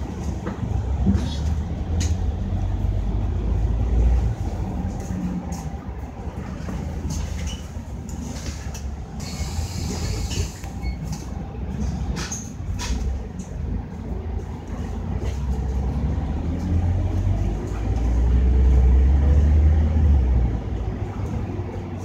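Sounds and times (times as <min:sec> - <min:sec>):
bus diesel engine rumble: 0:00.0 - 0:22.0.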